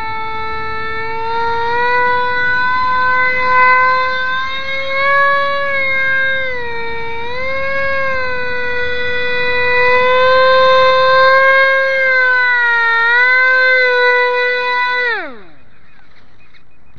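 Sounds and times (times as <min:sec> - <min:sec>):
drone fan whining: 0:00.0 - 0:16.9.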